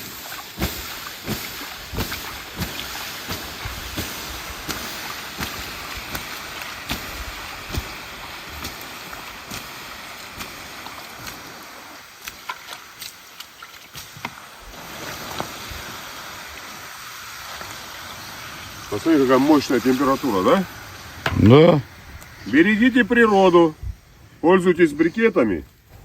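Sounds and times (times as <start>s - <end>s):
fire hissing: 0.0s - 12.2s, 14.3s - 26.0s
fire crackling: 0.0s - 26.0s.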